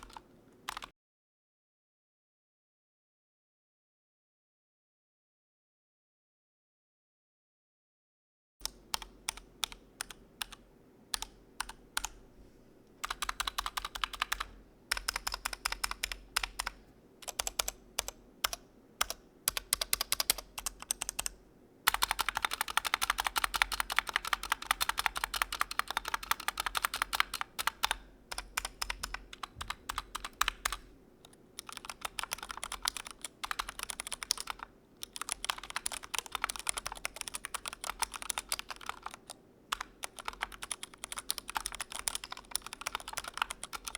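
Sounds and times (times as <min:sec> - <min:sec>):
mechanical keyboard typing: 0:00.0 - 0:00.9, 0:08.6 - 0:12.2, 0:13.0 - 0:43.9.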